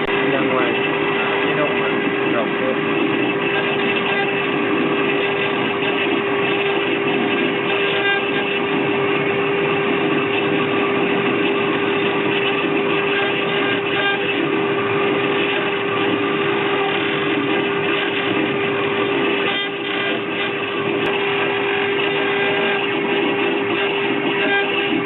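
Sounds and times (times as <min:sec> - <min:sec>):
cnc router spindle tone: 0:00.0 - 0:25.0
router cutting noise: 0:00.0 - 0:25.0.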